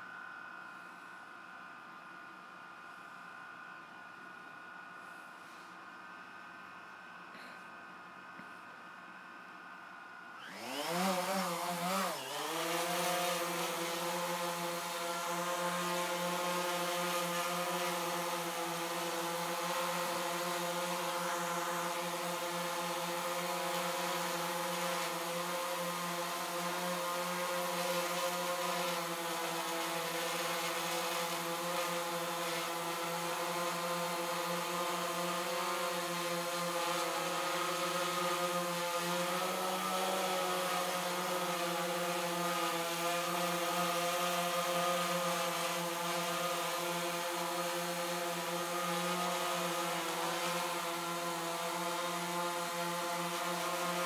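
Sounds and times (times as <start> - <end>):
drone propellers buzzing: 10.4 - 54.0.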